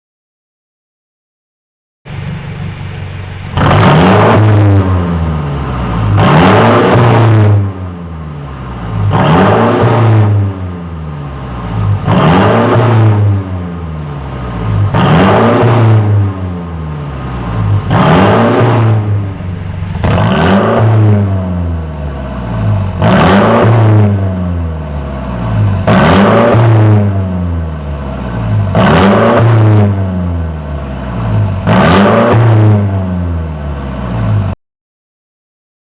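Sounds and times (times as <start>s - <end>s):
car engine revving: 2.1s - 34.6s.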